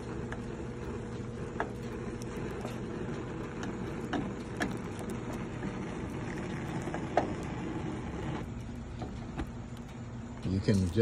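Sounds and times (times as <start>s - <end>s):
gas flames rushing: 0.0s - 11.0s.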